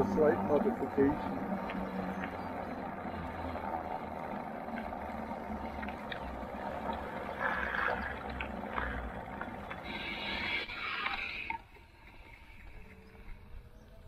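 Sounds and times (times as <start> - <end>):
bike tyres rolling on trail: 0.0 - 14.0.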